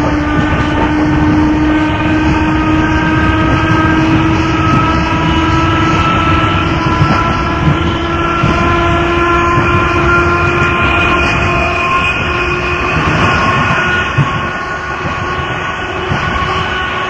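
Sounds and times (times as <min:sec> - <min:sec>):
train motor whine: 0:00.0 - 0:17.0
train rumble: 0:00.0 - 0:17.0.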